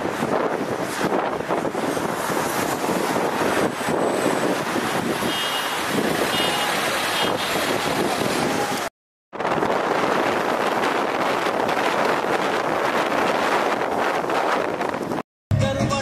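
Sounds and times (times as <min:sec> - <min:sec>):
wind buffeting microphone: 0:00.0 - 0:15.2
car road noise: 0:00.0 - 0:16.0.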